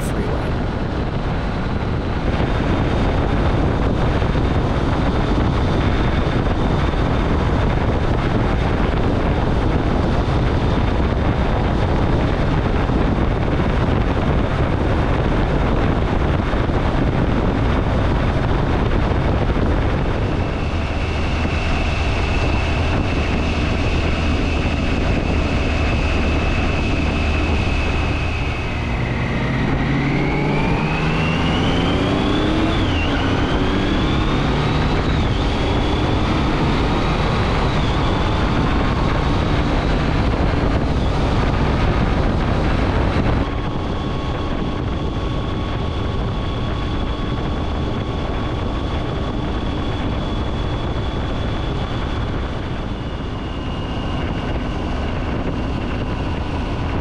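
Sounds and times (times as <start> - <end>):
heavy wind noise: 0.0 - 57.0.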